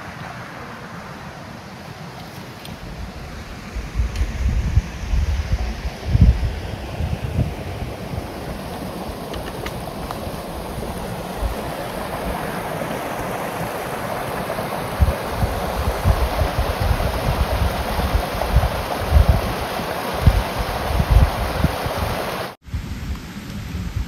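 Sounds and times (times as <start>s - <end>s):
wind rushing through forest: 0.0s - 24.0s
wind buffeting microphone: 2.8s - 24.0s.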